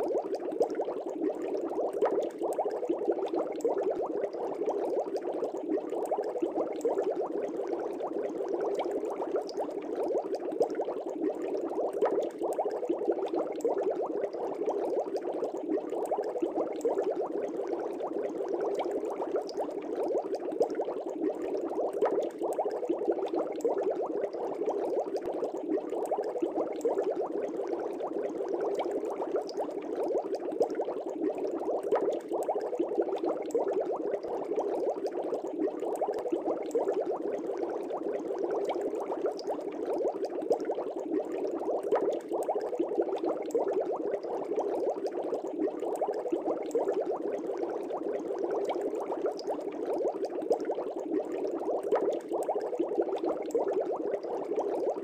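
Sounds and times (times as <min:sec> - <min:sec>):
aquarium air bubbles bubbling: 0:00.0 - 0:55.0.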